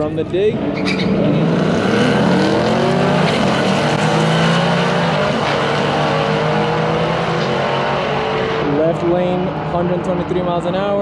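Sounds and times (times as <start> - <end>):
drag cars accelerating: 0.5 - 11.0.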